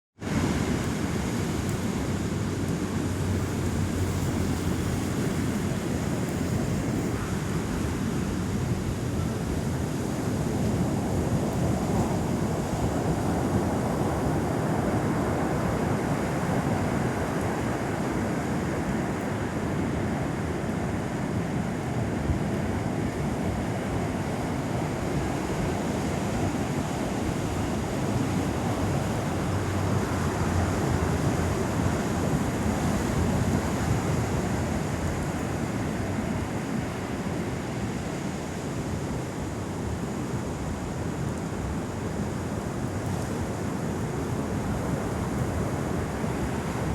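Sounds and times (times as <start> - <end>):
ocean surf washing: 0.2 - 46.9.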